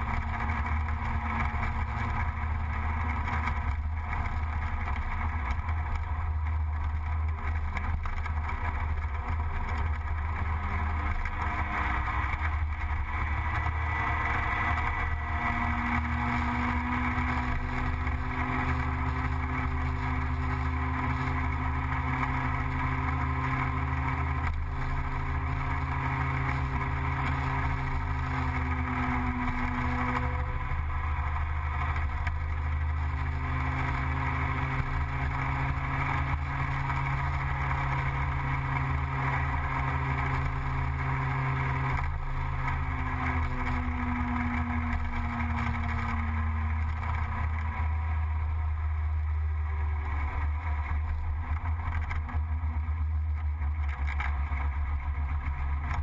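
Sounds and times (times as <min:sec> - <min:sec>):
road and wind noise: 0:00.0 - 0:56.0
scooter engine running: 0:00.0 - 0:56.0.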